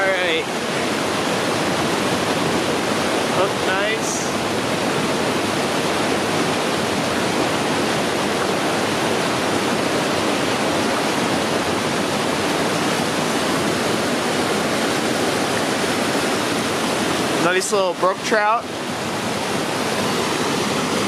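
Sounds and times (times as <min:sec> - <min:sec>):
creek water rushing over rapids: 0:00.0 - 0:21.0.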